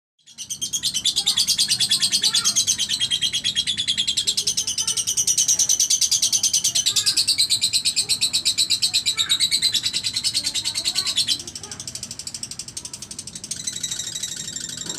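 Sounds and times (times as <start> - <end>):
lovebird chattering song: 0.2 - 14.9.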